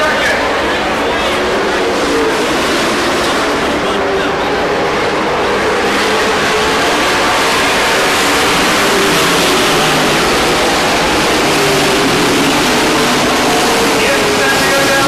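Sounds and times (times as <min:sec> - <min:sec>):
race truck engines: 0:00.0 - 0:15.0.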